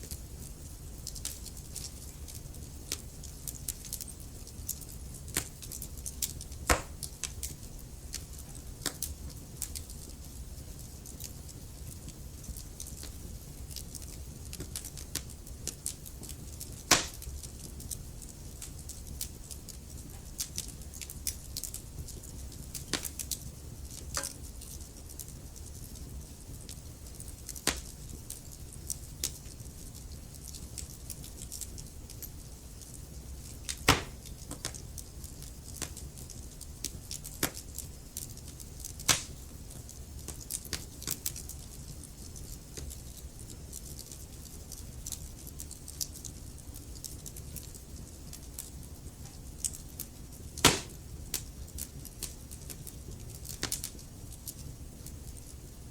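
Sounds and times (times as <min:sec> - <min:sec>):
wood fire crackling in a fireplace: 0:00.0 - 0:55.9.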